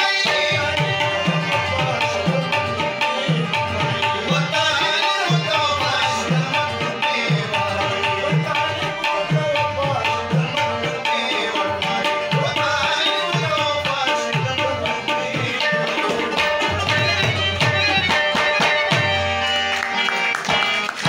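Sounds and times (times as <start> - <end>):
harmonium notes: 0.0 - 21.0
tabla rhythm: 0.0 - 21.0.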